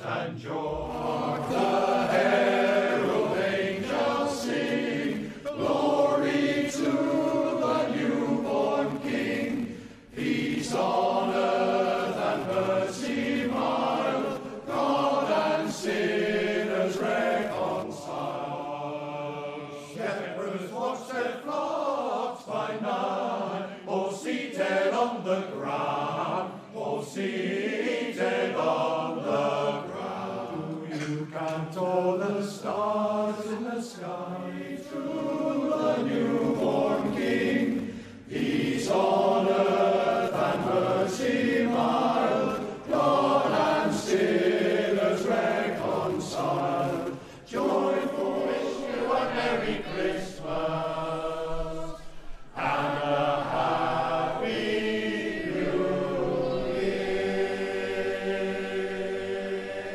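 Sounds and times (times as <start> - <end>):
choir singing a carol: 0.0 - 59.9.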